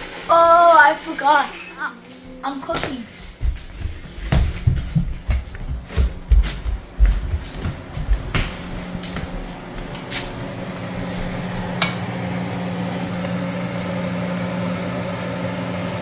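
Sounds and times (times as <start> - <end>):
appliance motor hum: 0.0 - 16.0.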